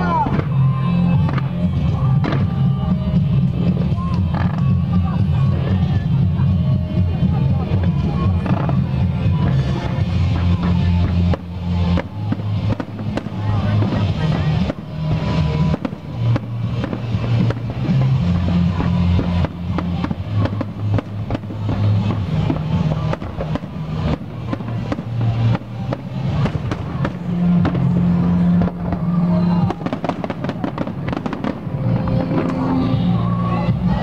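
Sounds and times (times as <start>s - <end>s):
fireworks bangs and crackles: 0.0s - 34.0s
loud music with bass notes: 0.0s - 34.0s.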